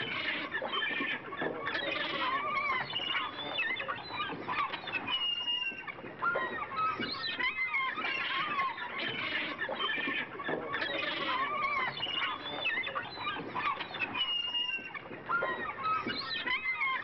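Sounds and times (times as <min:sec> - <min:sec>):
flock of birds squawking: 0:00.0 - 0:17.0.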